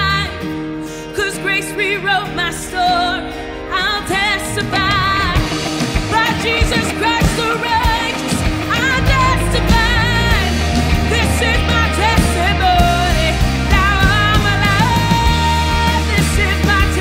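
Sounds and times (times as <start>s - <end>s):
drums: 0.0s - 17.0s
guitars and keyboard: 0.0s - 17.0s
women singing: 1.1s - 17.0s.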